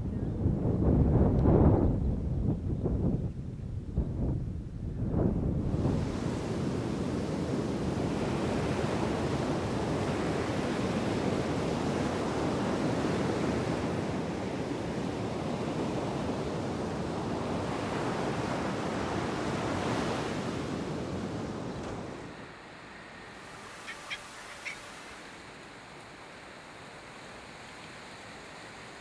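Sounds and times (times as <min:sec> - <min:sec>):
rushing wind: 0:00.0 - 0:29.0.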